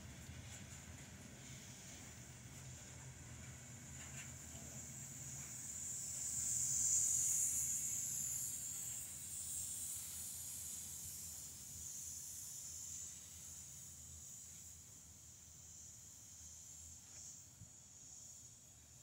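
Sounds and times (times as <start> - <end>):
train wheels hissing on rails: 0.0 - 19.0.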